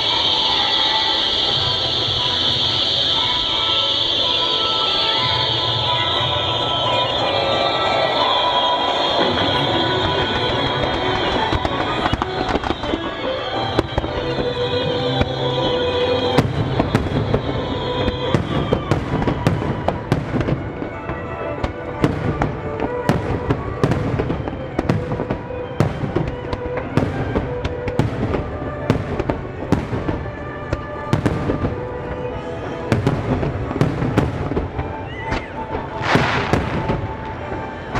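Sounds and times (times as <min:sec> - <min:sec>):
music with held tones: 0:00.0 - 0:37.9.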